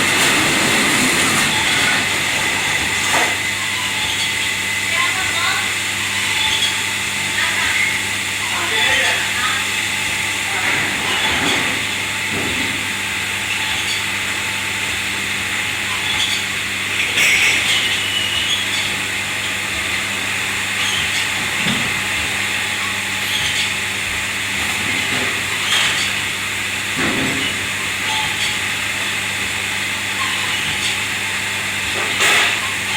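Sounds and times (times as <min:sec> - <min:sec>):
kitchen machinery humming: 0:00.0 - 0:32.9.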